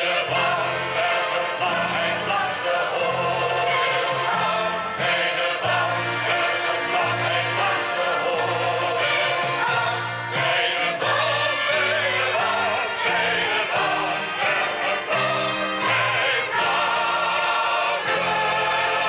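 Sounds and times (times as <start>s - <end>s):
choir singing with accompaniment: 0.0s - 19.0s.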